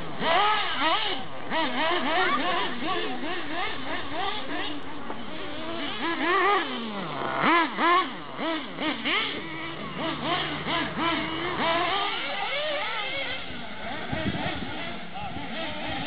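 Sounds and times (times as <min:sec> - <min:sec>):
model cars revving: 0:00.0 - 0:16.0.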